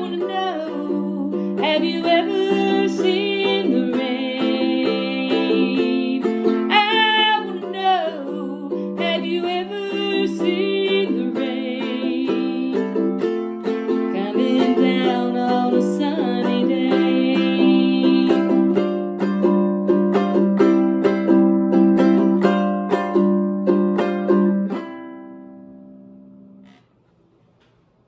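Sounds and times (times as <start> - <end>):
ukulele strumming chords: 0.0 - 26.6.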